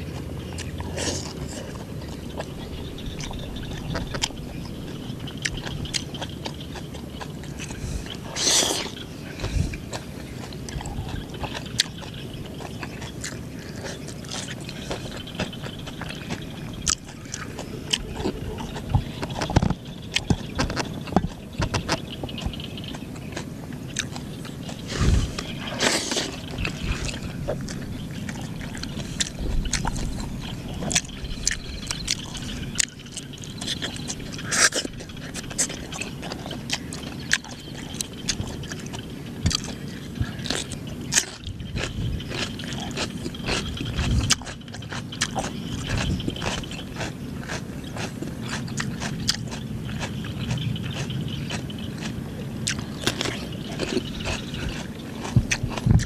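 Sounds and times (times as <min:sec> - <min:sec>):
man chewing food: 0:00.0 - 0:56.0.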